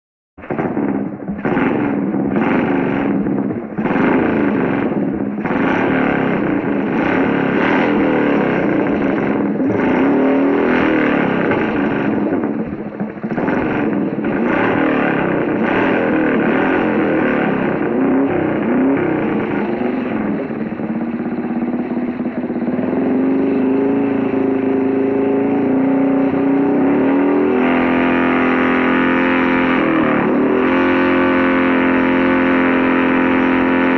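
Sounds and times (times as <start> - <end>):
motorcycle engine revving: 0.4 - 33.9.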